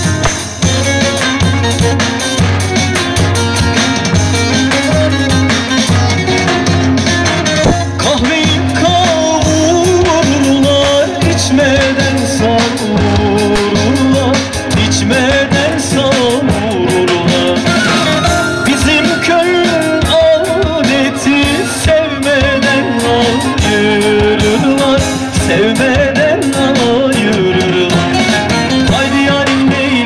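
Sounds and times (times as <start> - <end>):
folk dance music: 0.0 - 30.0.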